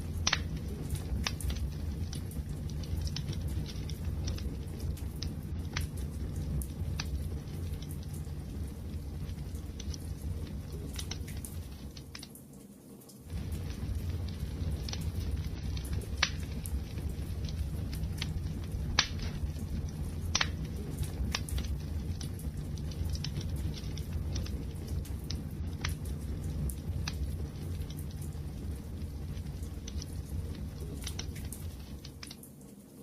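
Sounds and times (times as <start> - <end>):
fire pops: 0.0 - 12.4, 13.3 - 32.5
wood fire crackling and roaring: 0.0 - 33.0.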